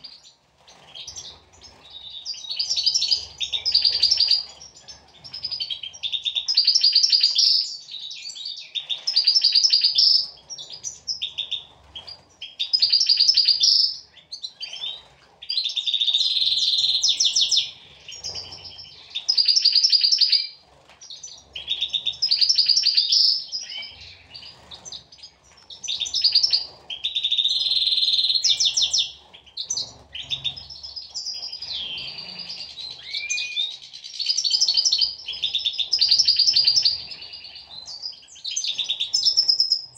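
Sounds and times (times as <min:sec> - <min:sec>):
finches twittering: 0:00.9 - 0:11.6, 0:12.3 - 0:20.5, 0:21.1 - 0:39.9.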